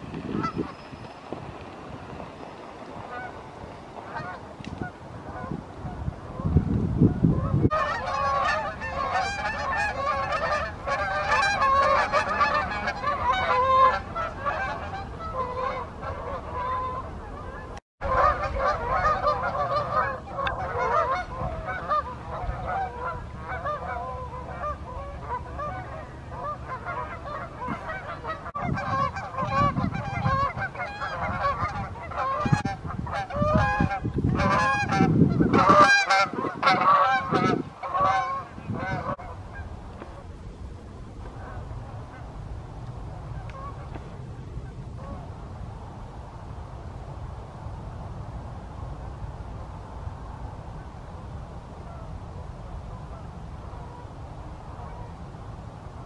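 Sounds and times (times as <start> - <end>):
geese honking: 0.0 - 40.3, 41.2 - 42.4, 43.2 - 45.3, 51.8 - 55.2
low rushing noise: 0.0 - 56.0.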